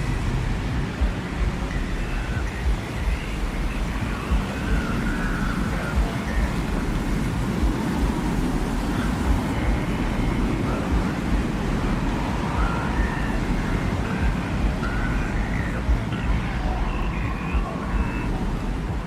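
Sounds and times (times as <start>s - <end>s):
faint wavering whistle-like tones: 0.0s - 19.0s
low wind rumble: 0.0s - 19.0s.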